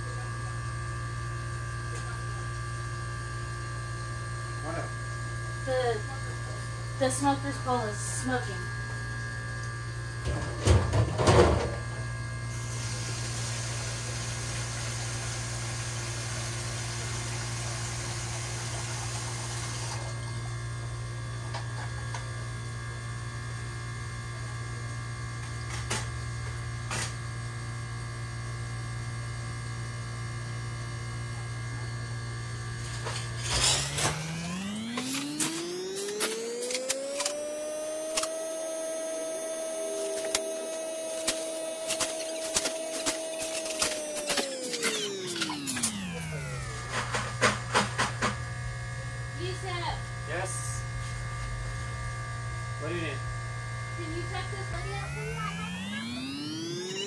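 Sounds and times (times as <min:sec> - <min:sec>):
machine electrical hum: 0:00.0 - 0:57.0
motor whine rising in pitch: 0:00.0 - 0:57.0.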